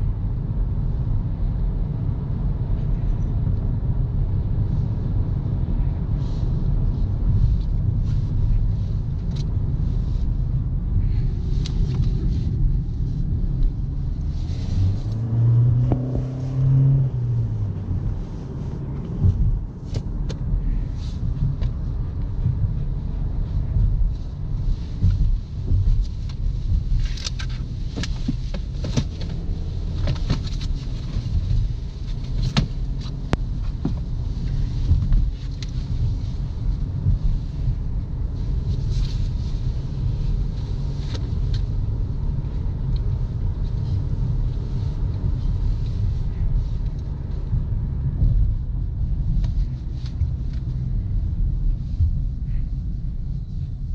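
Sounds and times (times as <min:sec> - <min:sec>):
car engine and tyres rumbling: 0:00.0 - 0:53.9.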